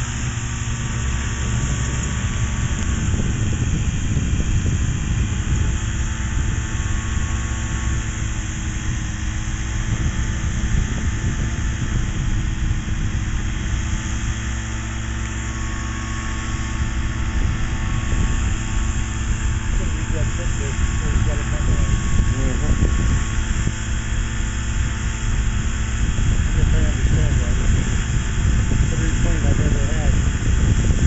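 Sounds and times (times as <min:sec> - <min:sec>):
light aircraft engine and propeller: 0:00.0 - 0:31.0.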